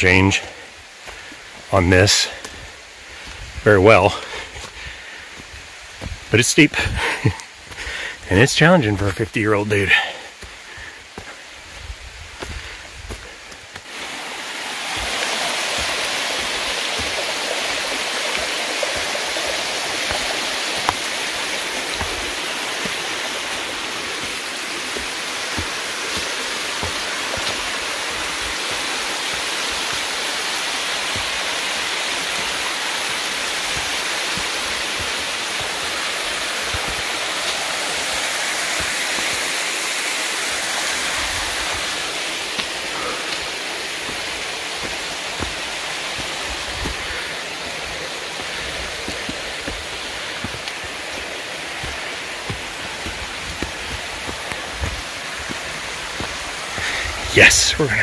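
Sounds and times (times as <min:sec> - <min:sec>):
stream rushing down rock: 0:00.0 - 0:58.0.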